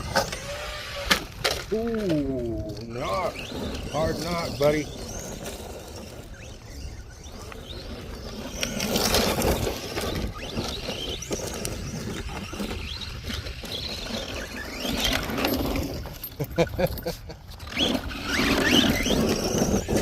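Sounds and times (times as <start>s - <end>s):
rc car electric motor whining: 0.0s - 20.0s
tyres crunching over loose ground: 0.0s - 20.0s.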